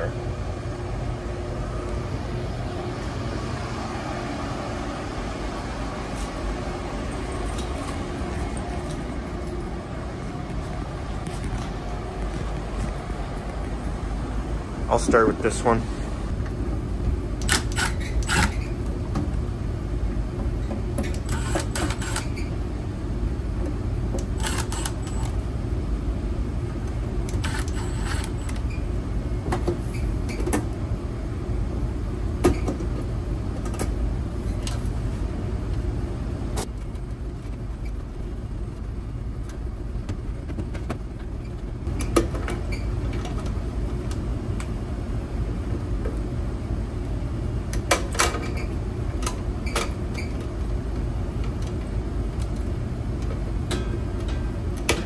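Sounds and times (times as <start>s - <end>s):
air-handling equipment drone: 0.0s - 47.9s.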